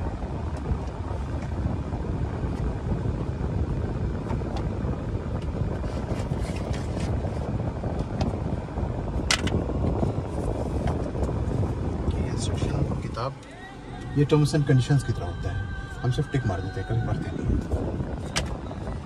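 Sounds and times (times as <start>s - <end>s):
low car cabin rumble: 0.0s - 19.0s.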